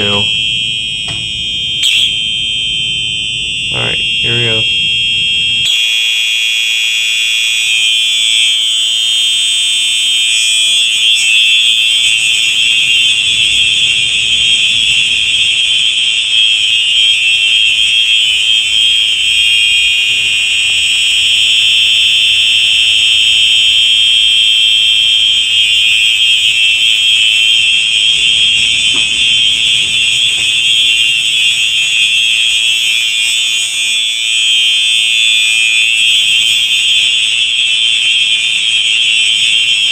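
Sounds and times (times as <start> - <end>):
fire alarm horn tone: 0.0 - 39.9.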